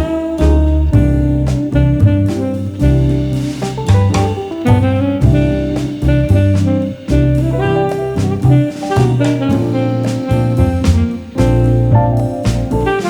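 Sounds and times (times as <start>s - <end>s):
instrumental bossa nova music: 0.0s - 13.0s.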